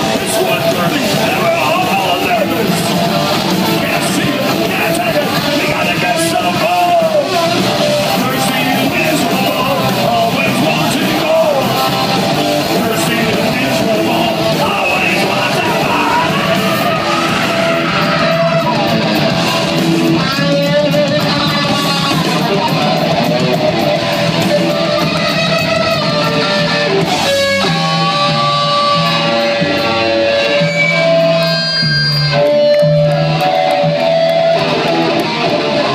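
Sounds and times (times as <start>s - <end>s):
live hardcore punk band playing: 0.0s - 35.9s.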